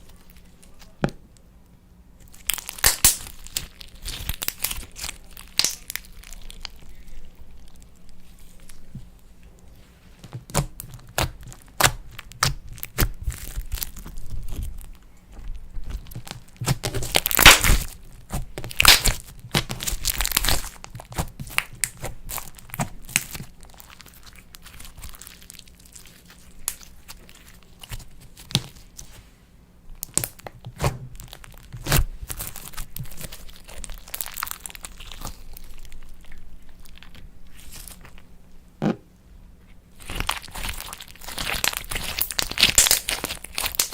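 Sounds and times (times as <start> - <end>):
slime crackling and popping: 2.2 - 8.9, 10.2 - 29.1, 30.0 - 38.3, 39.9 - 43.9.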